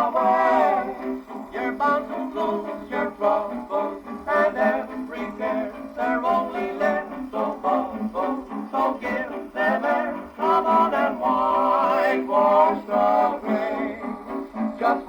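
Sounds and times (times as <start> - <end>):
dance band on gramophone record: 0.0 - 15.0.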